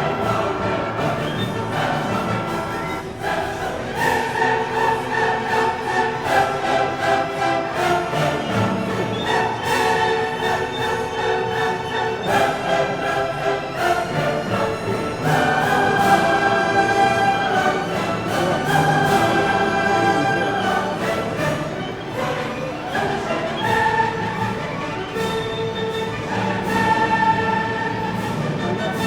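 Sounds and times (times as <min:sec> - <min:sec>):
orchestral music: 0:00.0 - 0:29.0.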